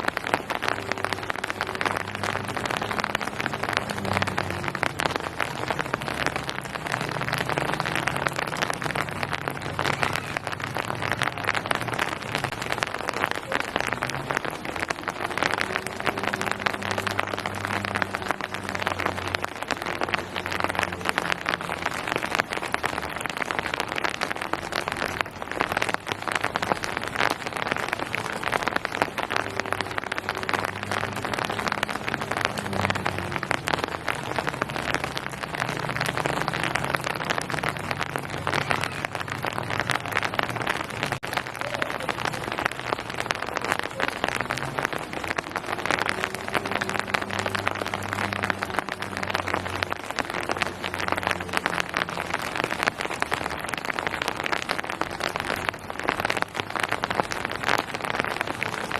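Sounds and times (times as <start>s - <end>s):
rain pattering on surfaces: 0.0s - 58.9s.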